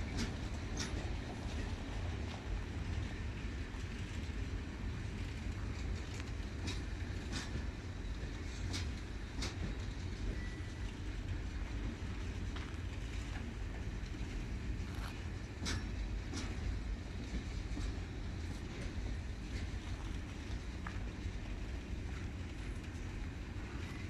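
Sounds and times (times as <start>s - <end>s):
freight wagons rumbling on rails: 0.0s - 24.0s
wheels clacking on track: 0.0s - 24.0s.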